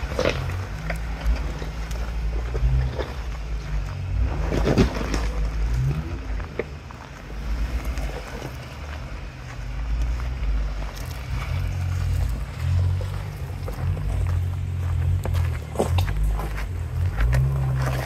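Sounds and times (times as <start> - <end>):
crunching over rocks: 0.0 - 18.0
engine running at low revs: 0.0 - 18.0.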